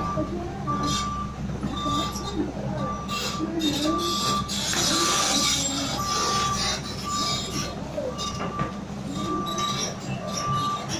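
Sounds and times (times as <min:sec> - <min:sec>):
excavator diesel engine running: 0:00.0 - 0:10.9
travel alarm beeping: 0:00.0 - 0:10.9
scraping and squealing: 0:01.8 - 0:10.9.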